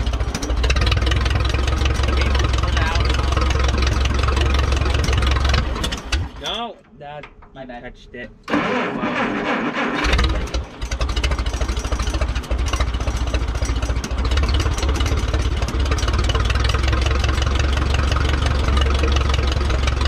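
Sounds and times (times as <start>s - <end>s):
gasoline engine running: 0.0s - 7.2s, 8.4s - 20.0s.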